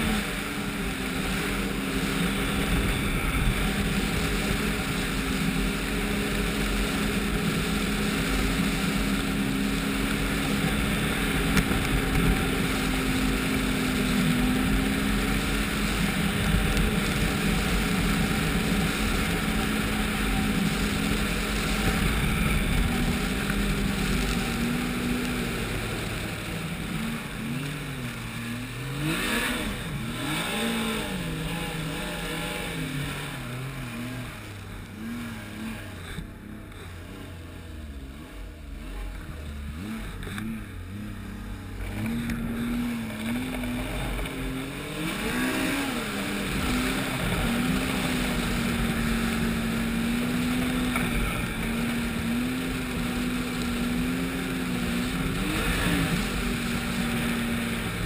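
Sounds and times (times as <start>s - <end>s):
rush of wind and snow: 0.0s - 58.0s
snowmobile engine: 0.0s - 58.0s.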